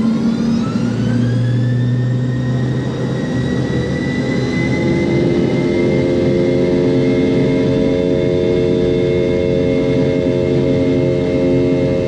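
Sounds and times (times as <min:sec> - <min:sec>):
jet engines whining: 0:00.0 - 0:12.0
low rumble of aircraft rolling: 0:00.0 - 0:12.0.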